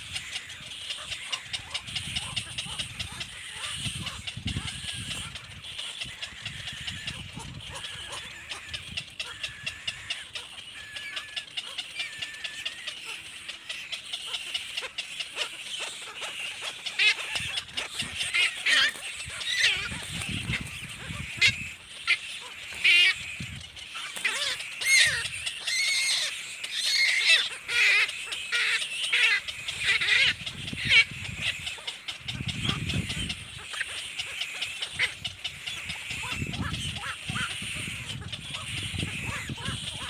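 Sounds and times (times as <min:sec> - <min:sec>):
baby bird harsh calls: 0:00.0 - 0:40.0.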